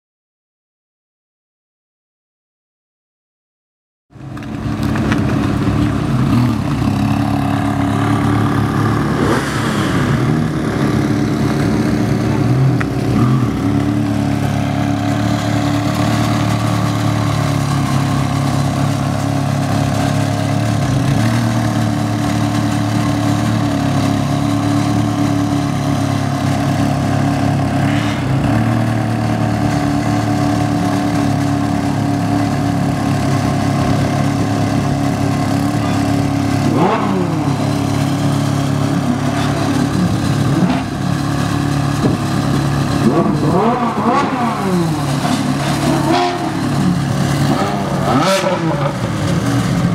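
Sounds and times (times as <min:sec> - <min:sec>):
car engine running near idle: 0:04.2 - 0:49.9.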